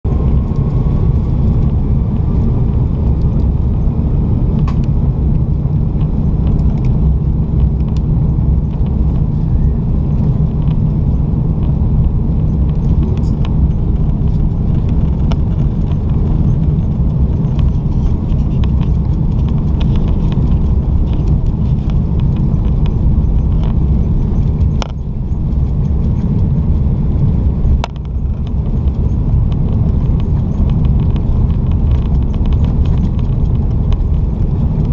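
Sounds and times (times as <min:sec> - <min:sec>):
aircraft engines and wheels rumbling: 0:00.0 - 0:34.9
faint whine: 0:00.1 - 0:34.9.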